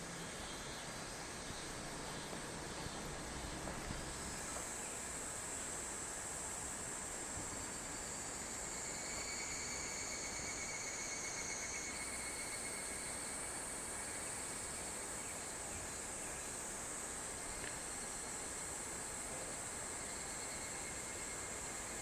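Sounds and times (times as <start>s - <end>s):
background hiss: 0.0s - 22.0s
cicadas chorus: 0.1s - 22.0s.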